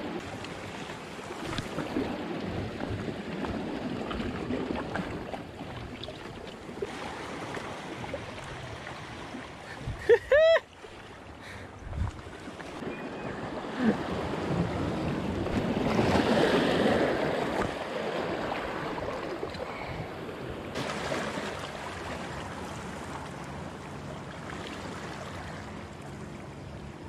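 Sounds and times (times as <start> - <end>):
waves lapping against rocks: 0.0 - 26.2.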